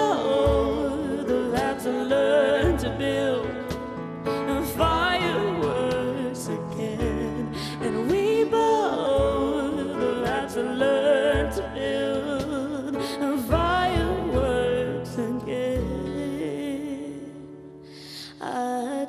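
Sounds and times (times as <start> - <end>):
grand piano: 0.0 - 18.0
acoustic guitar: 0.0 - 19.0
person singing: 0.0 - 19.0.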